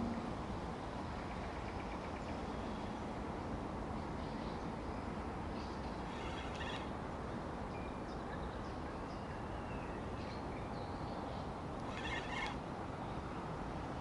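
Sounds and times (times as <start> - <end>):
songbirds chirping and trilling: 1.0 - 14.0.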